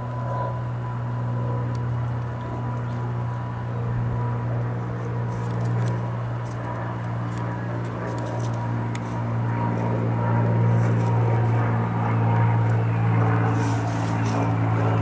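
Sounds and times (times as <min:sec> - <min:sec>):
propeller airplane droning overhead: 0:00.0 - 0:15.0.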